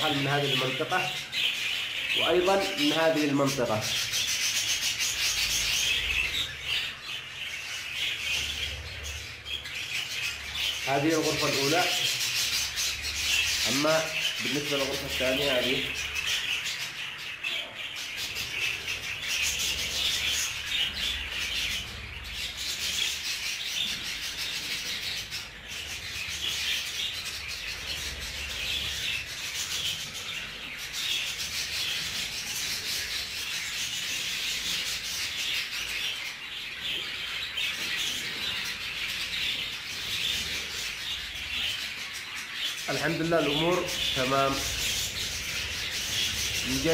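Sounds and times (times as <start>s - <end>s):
flock of budgerigars chattering: 0.0s - 46.9s.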